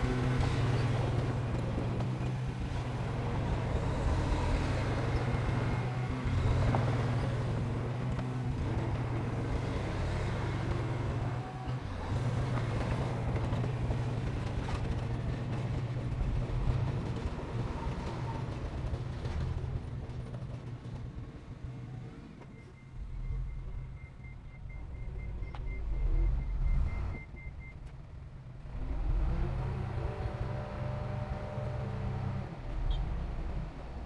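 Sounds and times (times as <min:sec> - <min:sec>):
heavy machinery diesel engine droning: 0:00.0 - 0:27.7.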